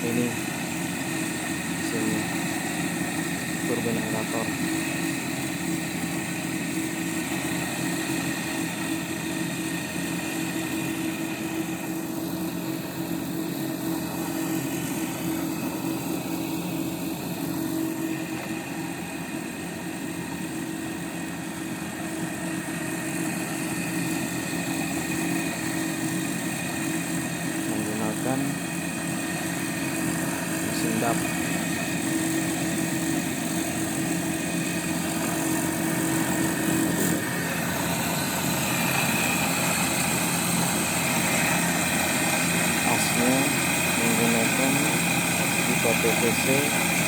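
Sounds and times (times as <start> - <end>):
electric pump motor humming: 0.0 - 47.0.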